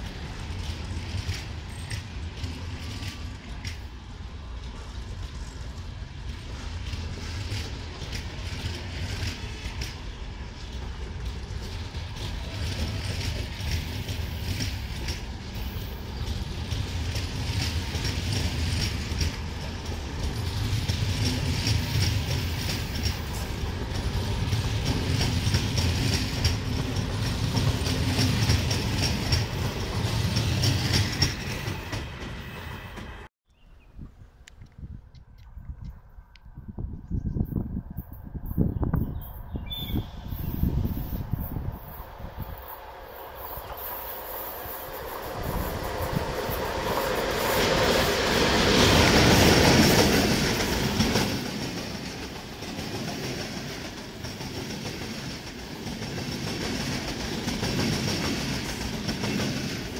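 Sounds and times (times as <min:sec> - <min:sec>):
train rumbling past: 0:00.0 - 0:33.3, 0:35.8 - 0:59.9.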